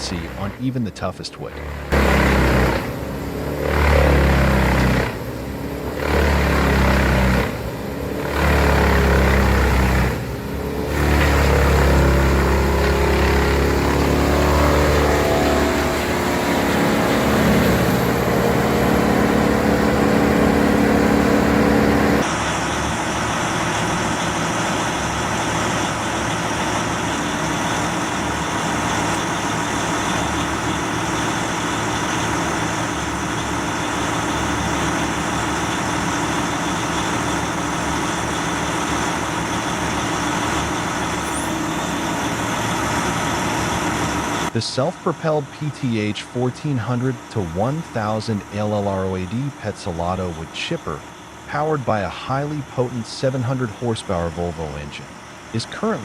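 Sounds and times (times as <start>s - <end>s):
wood chipper engine running: 0.0s - 0.7s, 1.4s - 56.0s
heavy machine drone: 0.0s - 56.0s.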